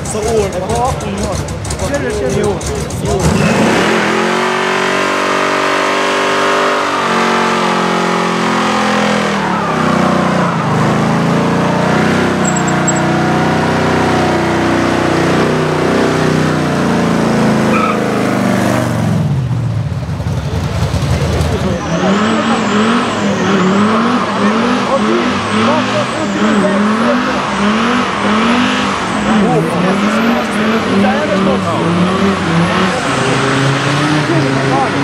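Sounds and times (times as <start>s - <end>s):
car engine revving high: 2.4s - 19.5s, 20.9s - 35.0s.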